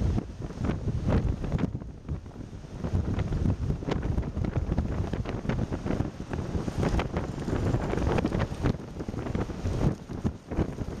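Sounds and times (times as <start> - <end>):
heavy surf rushing: 0.0 - 11.0
storm wind buffeting microphone: 0.0 - 11.0.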